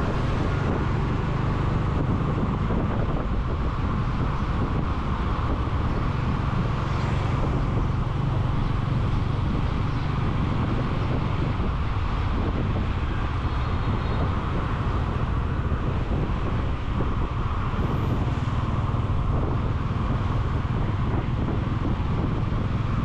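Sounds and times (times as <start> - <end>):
surrounding traffic: 0.0 - 23.0
wind and road noise: 0.0 - 23.0.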